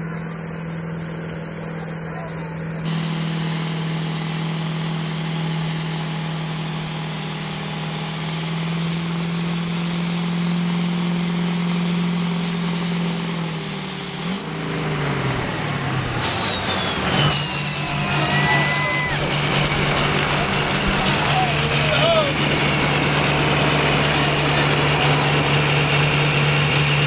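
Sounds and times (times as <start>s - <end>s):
diesel engine revving: 0.0s - 27.0s
turbo whistle: 0.1s - 25.2s
hissing bursts: 2.4s - 27.0s.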